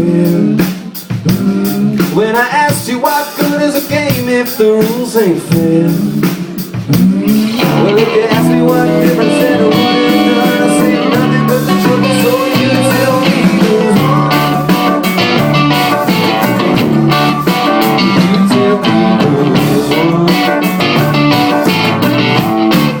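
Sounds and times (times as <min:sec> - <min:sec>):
guitar-led folk-blues band: 0:00.0 - 0:23.0.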